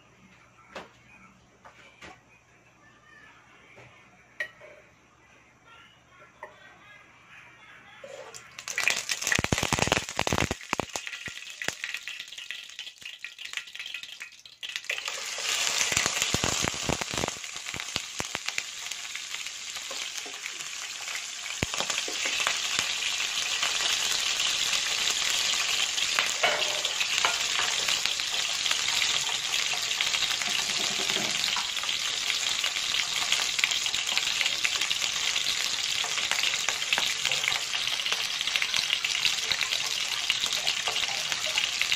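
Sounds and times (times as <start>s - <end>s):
fish sizzling in hot oil: 8.3s - 41.9s.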